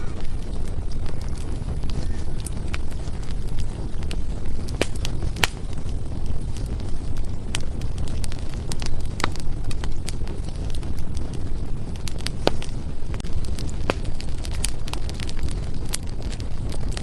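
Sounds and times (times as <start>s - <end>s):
firewood crackling in a fireplace: 0.0s - 17.0s.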